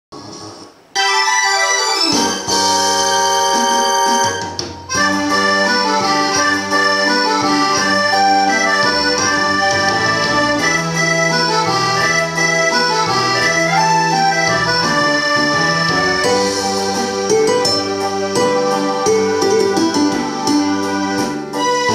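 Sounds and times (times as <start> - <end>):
instrumental karaoke music: 0.2 - 21.9.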